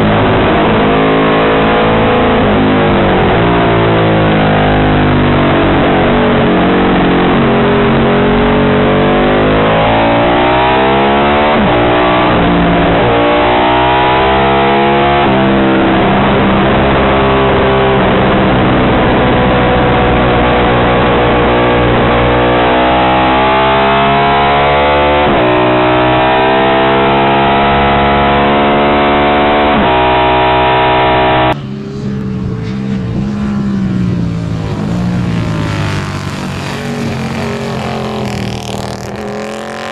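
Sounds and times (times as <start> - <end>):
distant engine from trackside: 0.0 - 39.9
racing motorcycle engine revving: 0.0 - 39.9.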